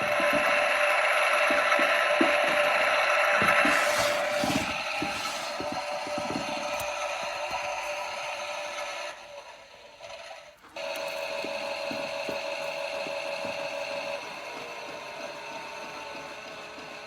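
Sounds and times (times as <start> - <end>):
toy washing machine whirring: 0.0 - 17.0.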